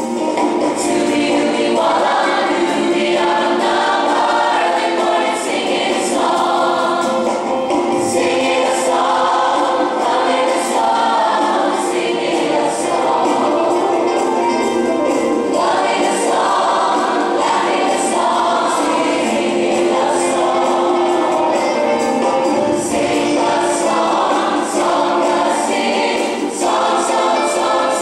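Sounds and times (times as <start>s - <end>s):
musical accompaniment: 0.0s - 28.0s
choir singing: 0.3s - 28.0s.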